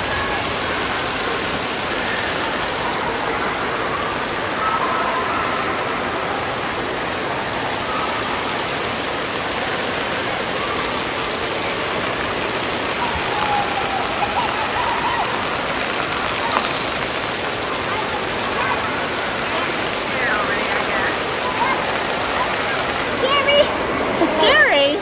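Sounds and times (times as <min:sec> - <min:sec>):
water pouring and spraying: 0:00.0 - 0:25.0.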